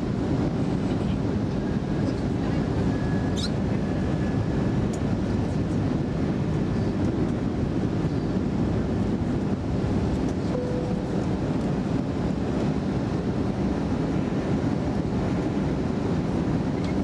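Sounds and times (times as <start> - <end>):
airliner cabin noise: 0.0 - 17.0.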